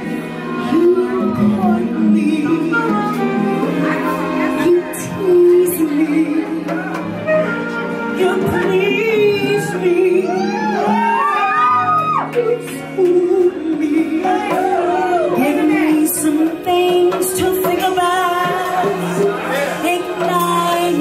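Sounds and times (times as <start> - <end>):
band music: 0.0 - 21.0
woman singing: 0.0 - 21.0.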